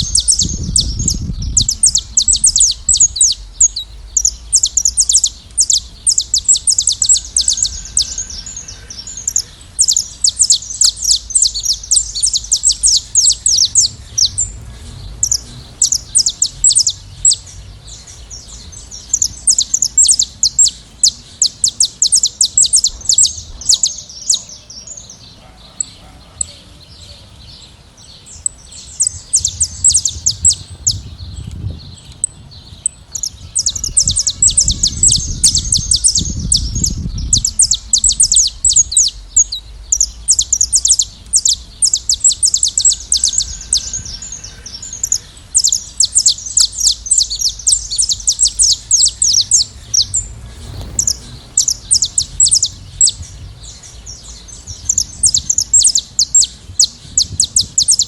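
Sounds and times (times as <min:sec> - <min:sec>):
low rumble: 0:00.0 - 0:21.0, 0:28.3 - 0:57.8
finches chirping: 0:00.0 - 0:58.0.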